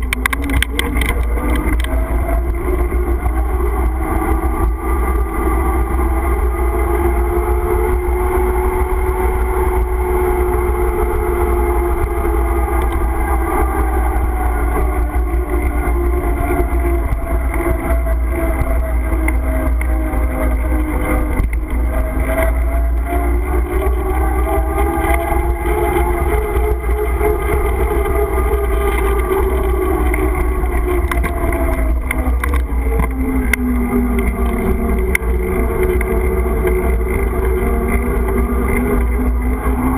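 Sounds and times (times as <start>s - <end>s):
small vehicle engine running: 0.0s - 39.9s
wind rumble on microphone: 0.0s - 39.9s.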